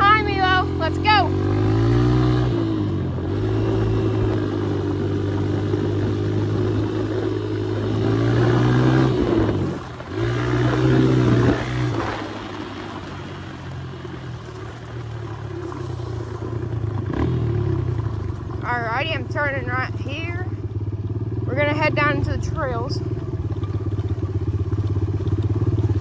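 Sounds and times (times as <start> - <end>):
dirt bike engine under throttle: 0.0 - 26.0.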